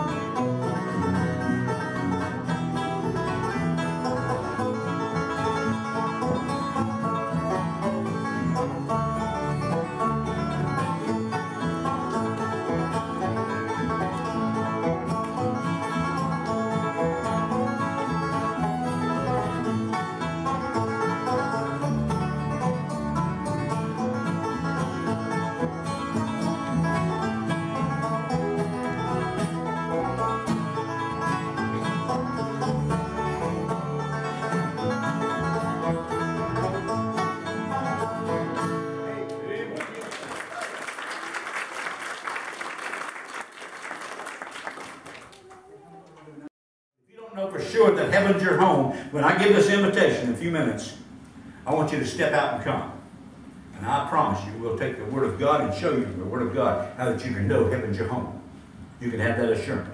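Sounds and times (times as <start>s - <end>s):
bluegrass band playing: 0.0s - 39.8s, 47.4s - 59.9s.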